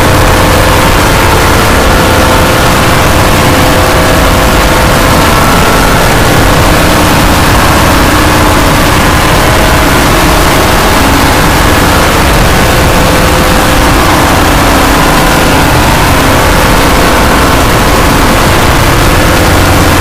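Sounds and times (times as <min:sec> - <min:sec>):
distorted harsh noise: 0:00.0 - 0:20.0.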